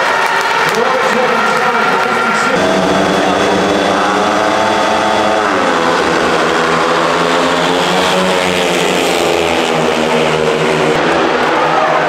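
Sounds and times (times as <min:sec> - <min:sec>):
motorcycle engines racing: 0:00.6 - 0:12.0.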